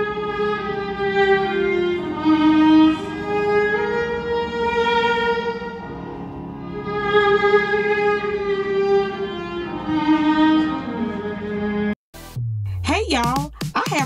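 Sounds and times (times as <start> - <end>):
violin playing slow melody: 0.0 - 12.0.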